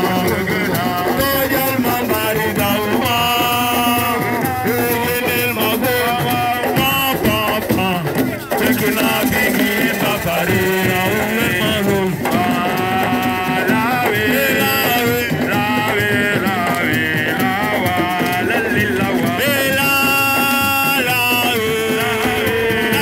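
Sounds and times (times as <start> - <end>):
loud music with singing: 0.0 - 23.0.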